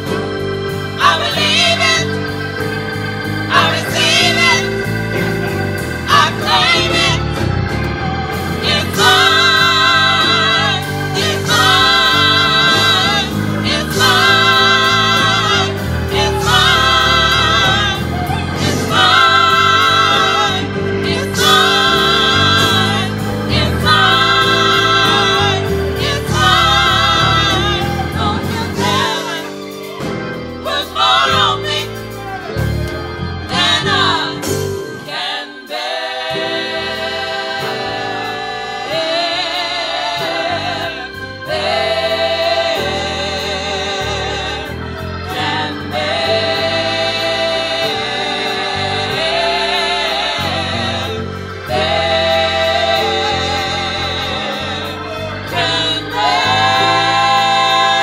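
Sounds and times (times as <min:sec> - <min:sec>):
electric bass: 0:00.0 - 0:35.1, 0:36.0 - 0:58.0
keyboard: 0:00.0 - 0:58.0
women singing in harmony: 0:00.9 - 0:02.4, 0:03.4 - 0:07.6, 0:08.4 - 0:32.8, 0:33.4 - 0:58.0.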